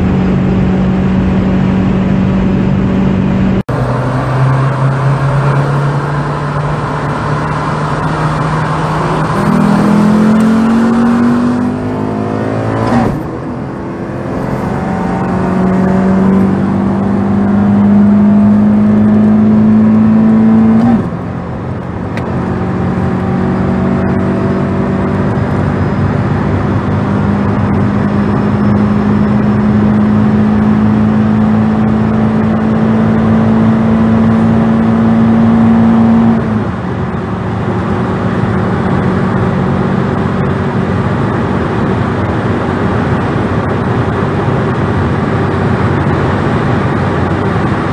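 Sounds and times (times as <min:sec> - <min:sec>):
car engine revving under full throttle: 0:00.0 - 0:47.9.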